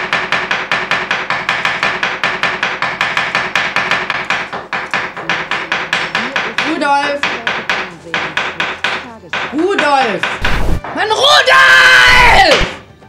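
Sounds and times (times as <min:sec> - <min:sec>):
knife chopping on a wooden board: 0:00.0 - 0:11.0.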